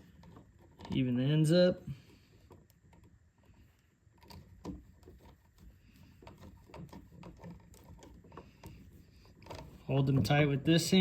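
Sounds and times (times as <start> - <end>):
wires clicking and scraping: 0.0 - 11.0.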